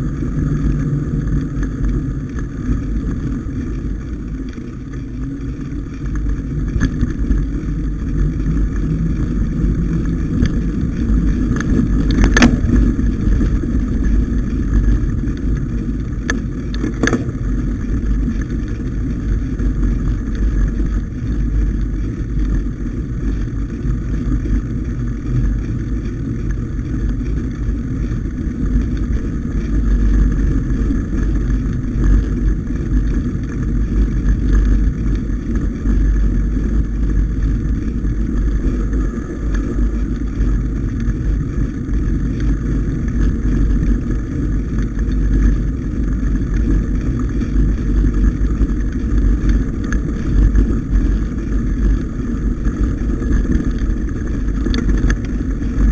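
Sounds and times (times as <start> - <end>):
bike tires rolling on snowy dirt: 0.0 - 55.9
wind rumble on microphone: 0.0 - 55.9.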